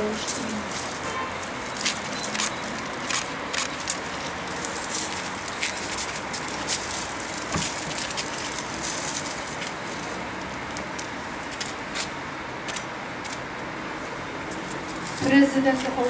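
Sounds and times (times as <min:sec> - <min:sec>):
distant traffic hum: 0:00.0 - 0:16.0
rustles: 0:00.0 - 0:16.0.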